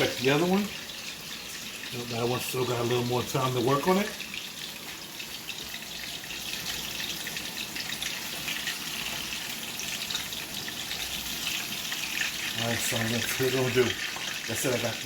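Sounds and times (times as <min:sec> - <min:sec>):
chicken sizzling in a hot pan: 0:00.0 - 0:15.0.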